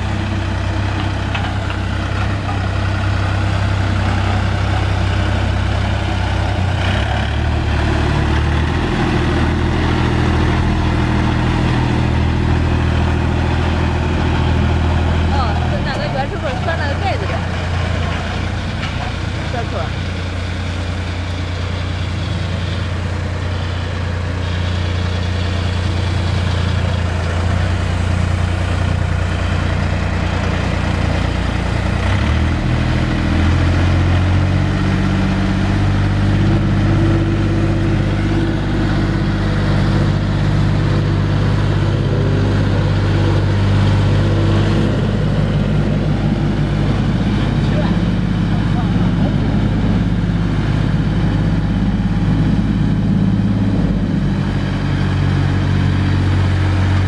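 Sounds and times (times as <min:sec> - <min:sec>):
road roller engine droning: 0:00.0 - 0:57.0.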